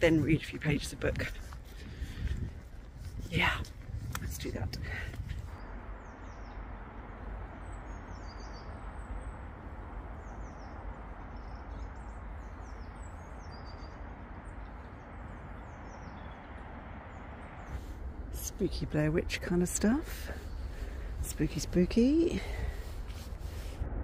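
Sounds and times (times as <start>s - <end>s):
small birds chirping: 0.0s - 23.7s
low background rumble: 0.0s - 24.0s.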